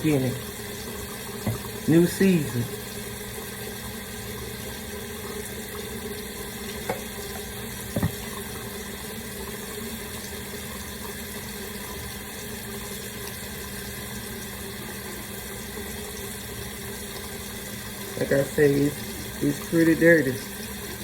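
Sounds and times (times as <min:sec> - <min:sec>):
tap water running into sink: 0:00.0 - 0:21.0.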